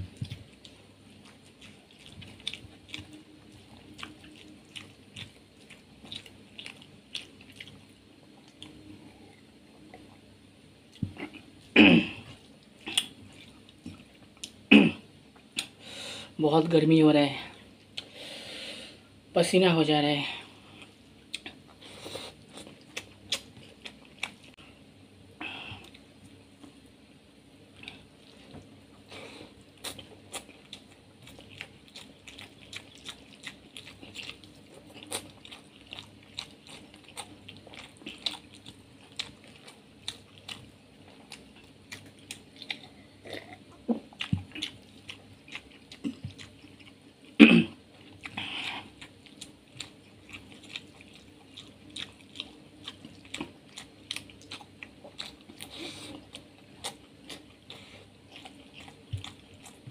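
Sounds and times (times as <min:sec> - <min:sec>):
chewing food with mouth clicks: 0:00.0 - 0:10.2, 0:12.2 - 0:14.6, 0:20.7 - 0:24.6, 0:27.8 - 0:59.9.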